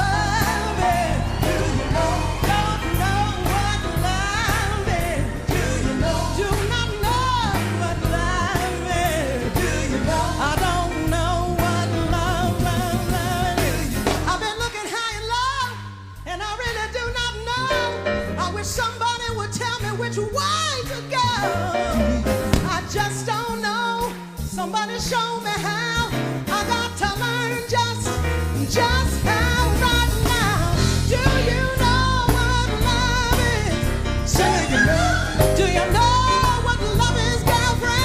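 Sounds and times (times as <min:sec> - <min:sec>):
live band with bass line: 0:00.0 - 0:38.0
woman singing jazz: 0:00.0 - 0:38.0.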